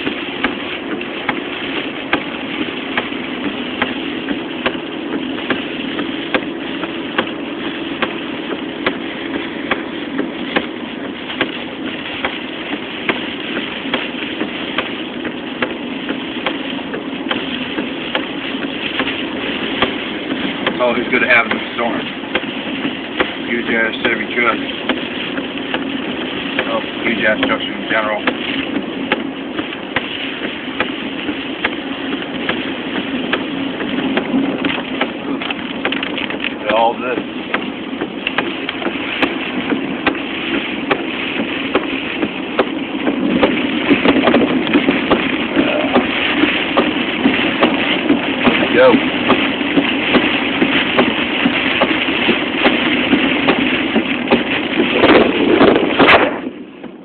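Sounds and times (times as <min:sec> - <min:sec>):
car engine: 0:00.0 - 0:57.0
rain and road noise: 0:00.0 - 0:57.0.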